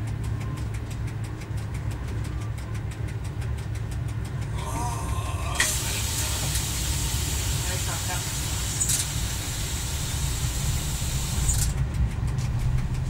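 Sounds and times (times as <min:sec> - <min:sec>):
fast even ticking: 0:00.0 - 0:13.0
railcar engine low rumble: 0:00.0 - 0:13.0.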